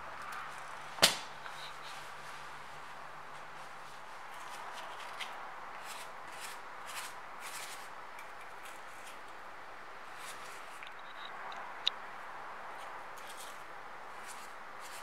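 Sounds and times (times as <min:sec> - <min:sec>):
soft pastry brush strokes: 0:00.0 - 0:10.8, 0:12.7 - 0:15.0
steady background hiss: 0:00.0 - 0:15.0.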